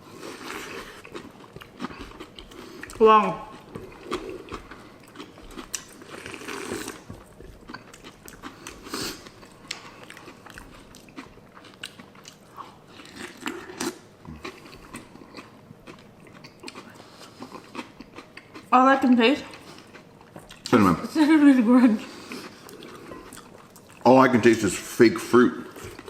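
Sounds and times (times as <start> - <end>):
chewing crunchy cereal: 0.0 - 18.7, 19.5 - 20.9, 22.2 - 24.9.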